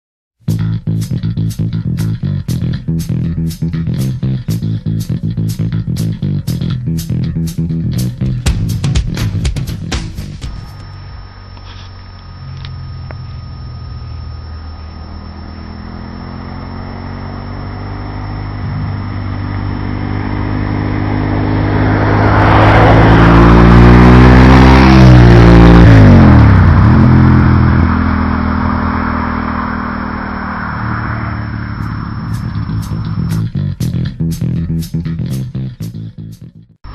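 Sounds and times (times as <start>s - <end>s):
motorcycle engine passing at speed: 1.0s - 36.9s.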